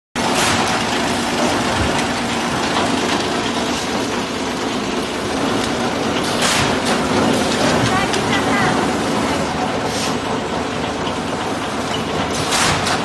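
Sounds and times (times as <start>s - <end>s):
machine line mechanical din: 0.2s - 13.0s.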